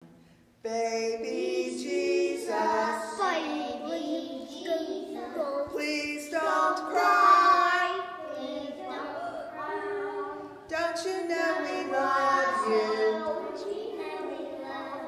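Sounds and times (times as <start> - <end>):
young children singing: 0.7 - 15.0.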